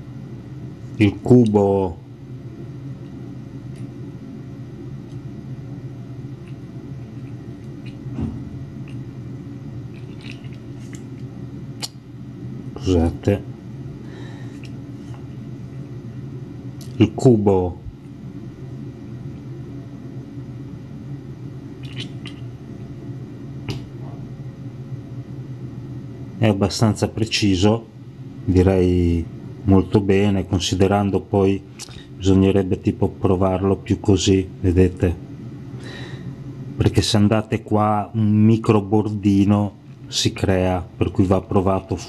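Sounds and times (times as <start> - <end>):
low background hum: 0.0 - 42.0.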